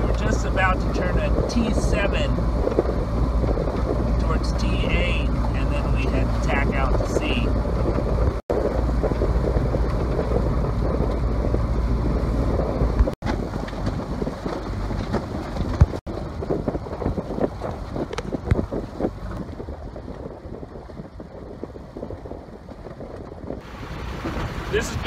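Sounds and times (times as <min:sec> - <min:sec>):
heavy low rumble: 0:00.0 - 0:25.0
wind buffeting microphone: 0:00.0 - 0:25.0.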